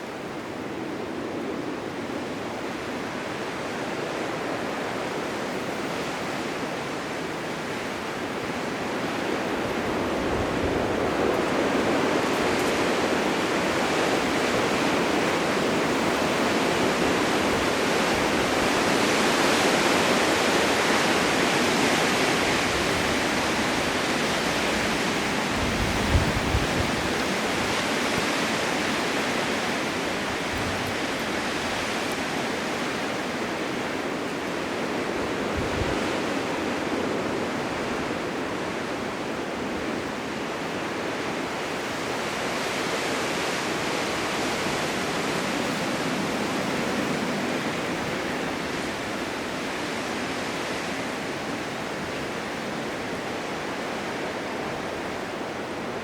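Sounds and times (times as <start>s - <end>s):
blizzard wind rushing: 0.0s - 56.0s.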